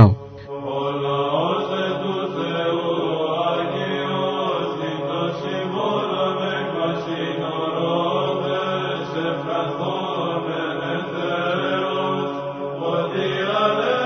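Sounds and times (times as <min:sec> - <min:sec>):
church chant singing: 0:00.0 - 0:14.0.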